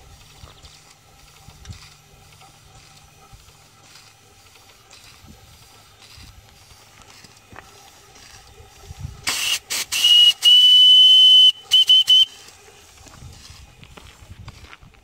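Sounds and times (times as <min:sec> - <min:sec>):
steam engine hissing puffs: 0:00.0 - 0:14.5.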